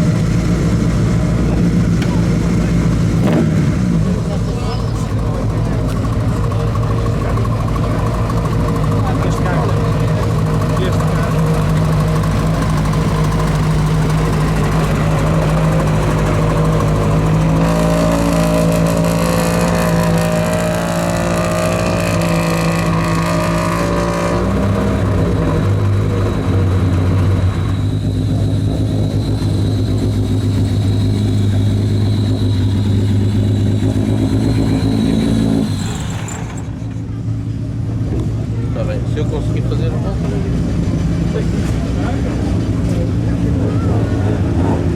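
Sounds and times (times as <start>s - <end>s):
rally car engine: 0.0s - 44.9s.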